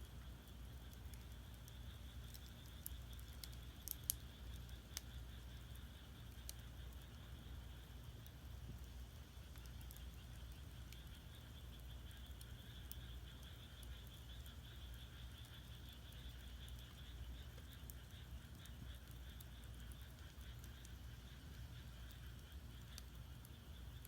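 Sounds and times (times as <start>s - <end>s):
chorus of frogs: 0.0s - 24.0s
firewood crackling: 0.0s - 24.0s
low fire rumble: 0.0s - 24.0s.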